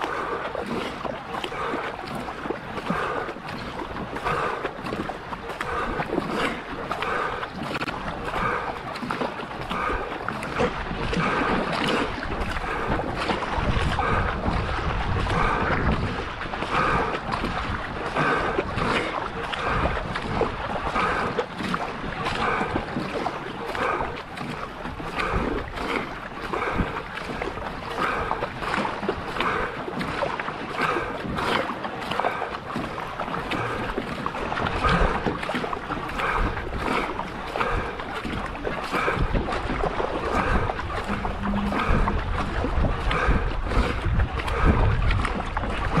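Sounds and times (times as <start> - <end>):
paddle splashes: 0.0 - 46.0
water rushing along hull: 0.0 - 46.0.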